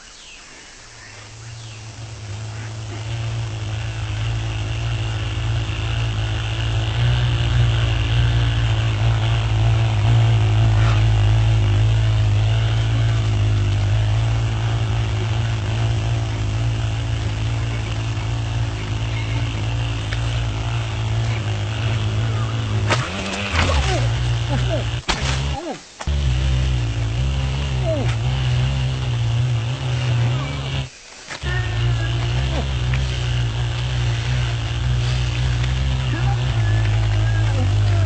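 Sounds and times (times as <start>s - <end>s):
fly buzzing: 0.0s - 38.0s.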